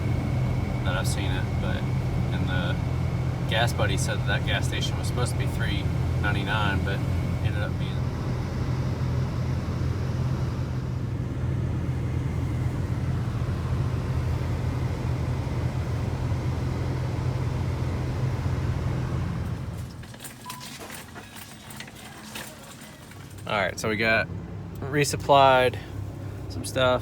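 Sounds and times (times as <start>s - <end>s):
car engine rumble inside cabin: 0.0s - 20.7s, 23.0s - 27.0s
road noise: 0.0s - 27.0s.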